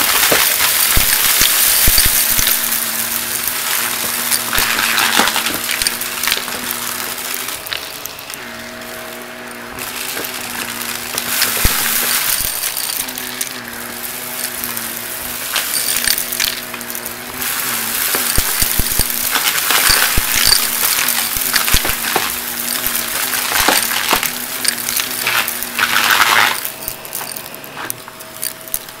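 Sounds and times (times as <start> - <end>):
debris clicking and rattling: 0.0 - 29.0
vacuum cleaner running: 0.0 - 29.0.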